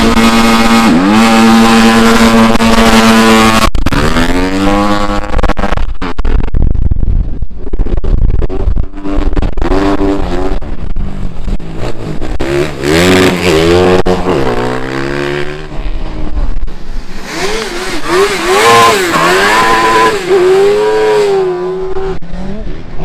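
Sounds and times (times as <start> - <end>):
race car engines revving: 0.0 - 6.5, 7.7 - 23.0.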